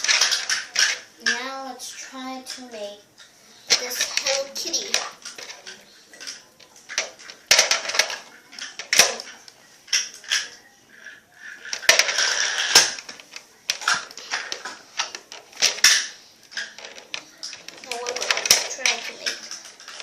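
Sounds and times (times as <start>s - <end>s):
plastic pieces clicking and scraping: 0.0s - 2.9s, 3.7s - 20.0s.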